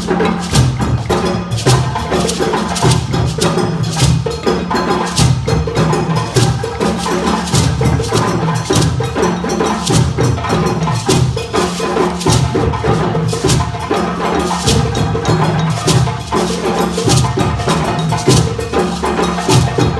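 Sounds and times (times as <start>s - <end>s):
djembe drums playing: 0.0s - 19.9s.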